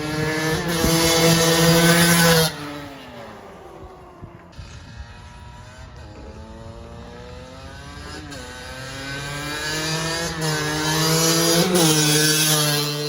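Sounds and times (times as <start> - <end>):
dirt bike engine revving: 0.0 - 5.4, 6.0 - 13.0.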